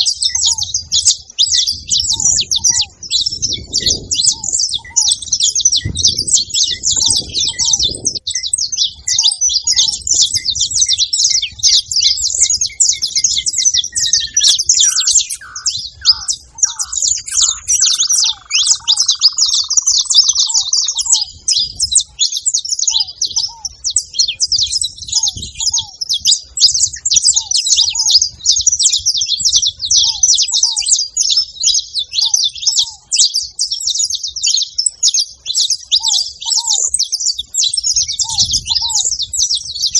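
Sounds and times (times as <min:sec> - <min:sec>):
bird with lower falling notes: 0:00.0 - 0:39.9
finches chirping and singing: 0:00.0 - 0:39.9.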